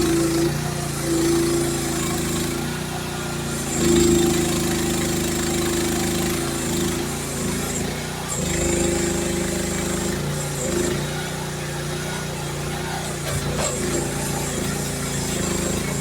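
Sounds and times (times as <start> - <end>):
excavator engine droning: 0.0 - 16.0
hydraulic whine: 0.0 - 16.0.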